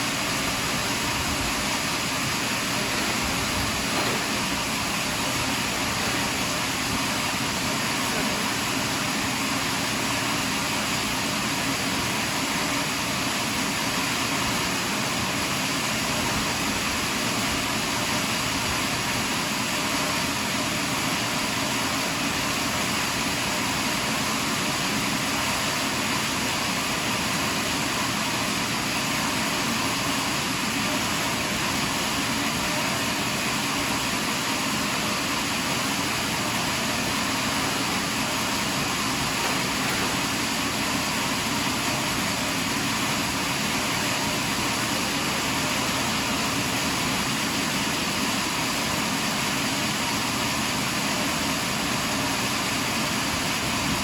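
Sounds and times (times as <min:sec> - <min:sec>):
sawmill cutting log: 0:00.0 - 0:54.0.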